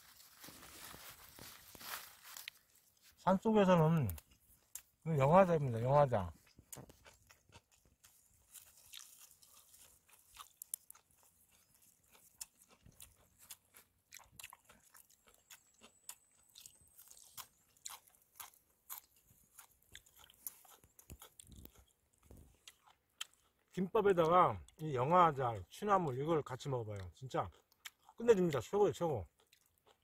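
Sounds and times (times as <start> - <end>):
person chewing crunchy greens: 0.0 - 30.0.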